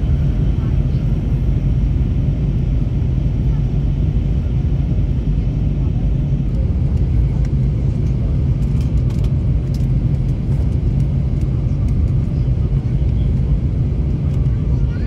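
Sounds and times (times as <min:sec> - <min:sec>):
jet airliner cabin rumble: 0:00.0 - 0:15.0.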